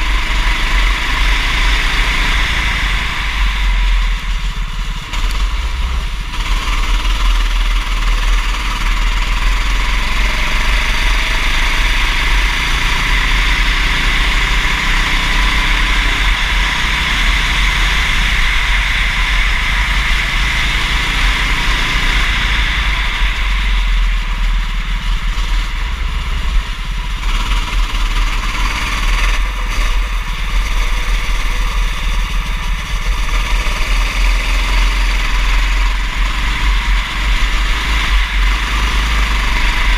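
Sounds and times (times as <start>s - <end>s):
kart engine revving: 0.0s - 39.9s
microphone wind rumble: 0.0s - 39.9s.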